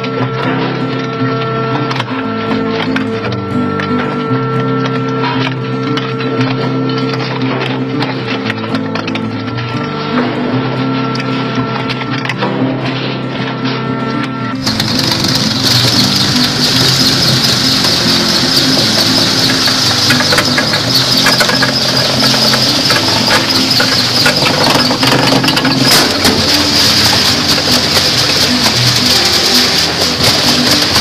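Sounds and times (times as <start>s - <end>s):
stone crusher droning: 0.0s - 31.0s.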